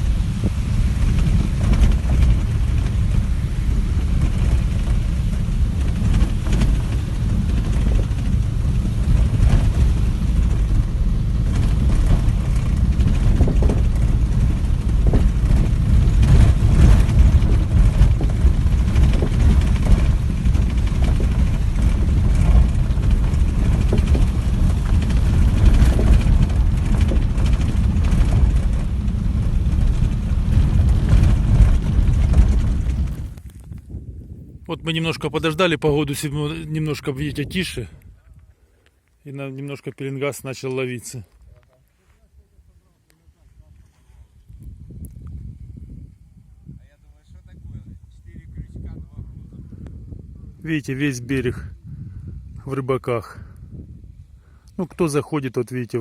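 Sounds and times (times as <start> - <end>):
wind buffeting microphone: 0.0 - 38.7, 42.4 - 55.4.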